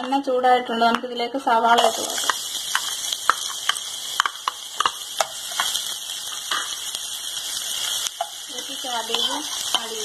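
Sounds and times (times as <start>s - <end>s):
onions sizzling in oil: 1.6s - 10.0s.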